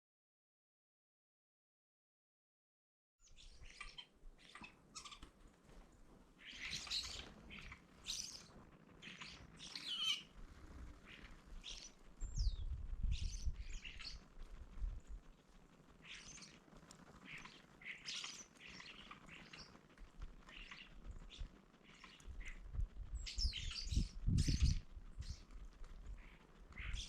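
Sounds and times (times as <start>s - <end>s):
wild birds chirping: 3.2s - 27.0s.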